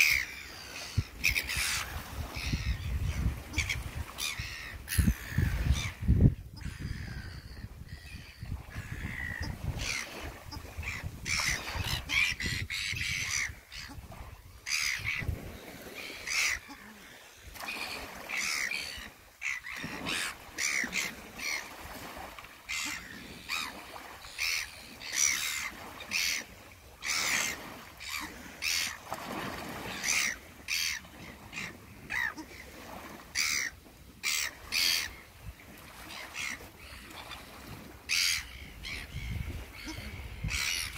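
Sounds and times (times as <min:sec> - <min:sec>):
gulls squabbling: 0:00.0 - 0:40.9.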